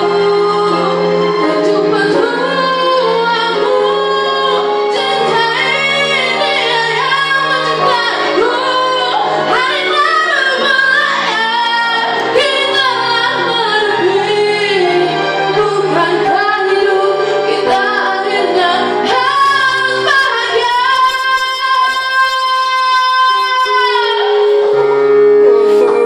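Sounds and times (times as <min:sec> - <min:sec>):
young women singing: 0:00.0 - 0:24.9
musical accompaniment: 0:00.0 - 0:26.0.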